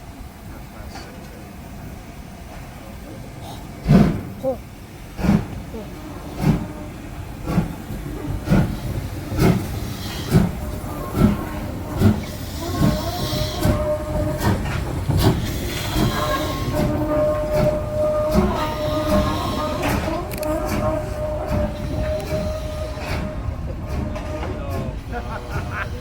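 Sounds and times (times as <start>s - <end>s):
train rumble: 0.0s - 26.0s
train wheels clicking over rail joints: 2.4s - 26.0s.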